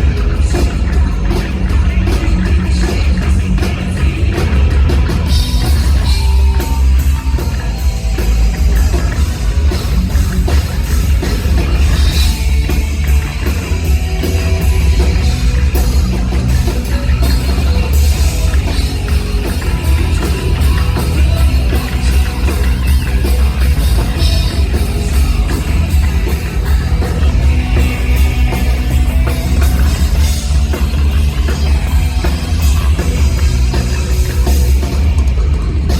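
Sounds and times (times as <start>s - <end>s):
booming bass: 0.0s - 35.9s
dense guitar: 0.0s - 35.9s
drum kit with cymbal crashes: 0.0s - 35.9s
rock band playing loud: 0.0s - 35.9s.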